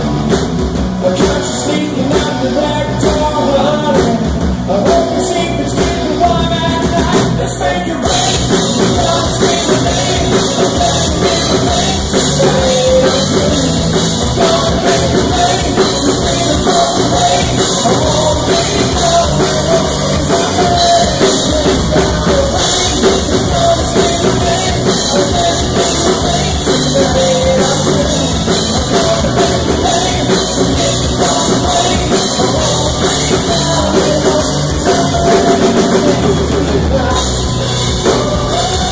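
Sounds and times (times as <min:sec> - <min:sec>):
drum kit: 0:00.0 - 0:38.9
electric guitar: 0:00.0 - 0:38.9
man singing: 0:01.0 - 0:38.9.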